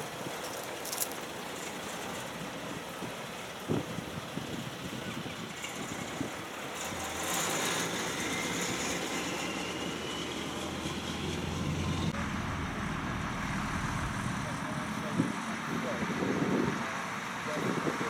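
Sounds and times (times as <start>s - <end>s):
diesel truck engine droning: 2.3s - 17.9s.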